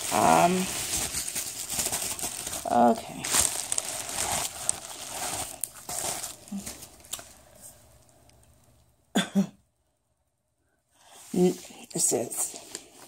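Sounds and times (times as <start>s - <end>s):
bubble wrap crinkling: 0.0s - 8.8s, 11.0s - 13.0s.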